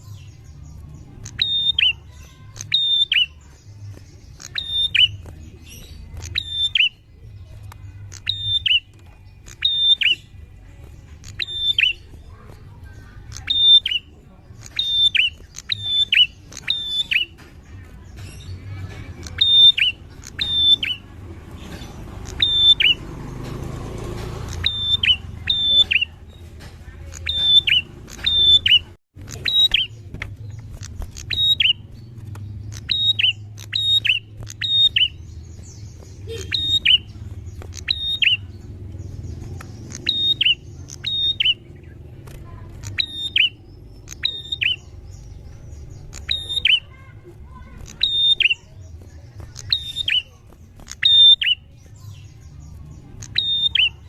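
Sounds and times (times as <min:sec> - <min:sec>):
bird sharp downslurred calls: 0:00.0 - 0:07.1, 0:07.9 - 0:54.0.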